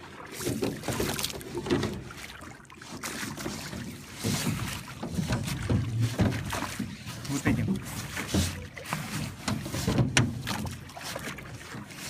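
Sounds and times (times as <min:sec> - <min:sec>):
water splashing around rowboat: 0:00.0 - 0:12.0.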